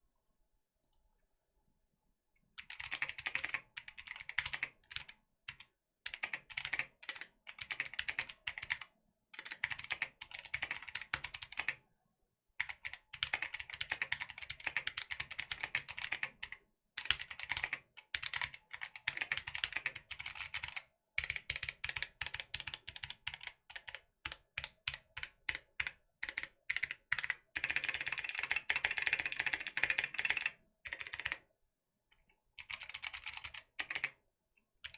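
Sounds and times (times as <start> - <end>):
clicky mechanical keyboard typing: 2.6 - 11.8, 12.6 - 31.4, 32.6 - 34.2.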